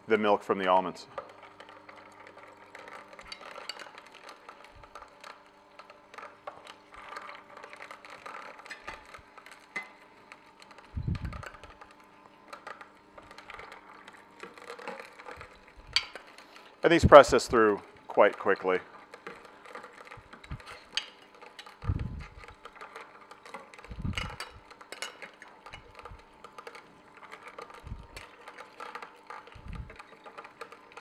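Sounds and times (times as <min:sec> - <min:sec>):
juicer crushing nuts: 0:00.0 - 0:31.0
low steady motor hum: 0:00.0 - 0:31.0.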